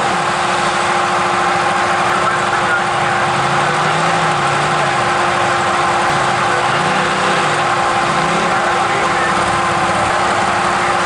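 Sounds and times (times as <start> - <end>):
off-road engines idling: 0.0 - 11.0.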